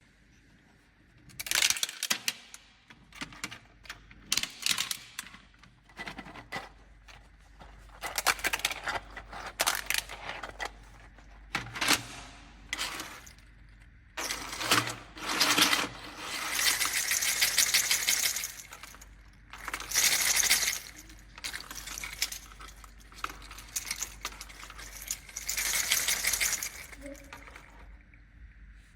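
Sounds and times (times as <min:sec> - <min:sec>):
hard plastic parts rattling: 0:01.4 - 0:13.6, 0:14.2 - 0:27.9.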